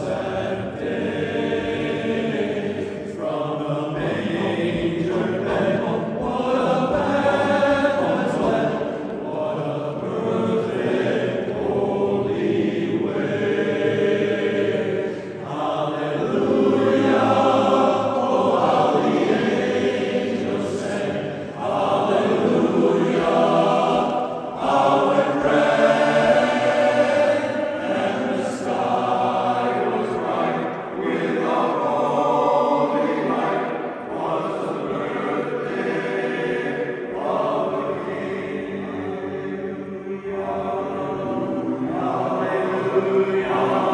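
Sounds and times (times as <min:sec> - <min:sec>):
chorus singing a cappella: 0:00.0 - 0:43.9.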